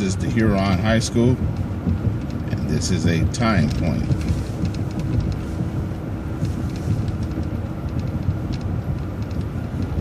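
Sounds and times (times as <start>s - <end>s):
bus engine and road noise: 0.0s - 10.0s
light clicks and rattles: 0.0s - 10.0s.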